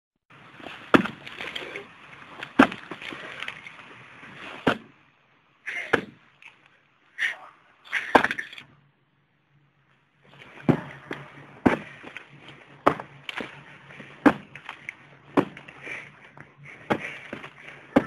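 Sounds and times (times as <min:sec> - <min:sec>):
faint low hum: 0:00.4 - 0:18.0.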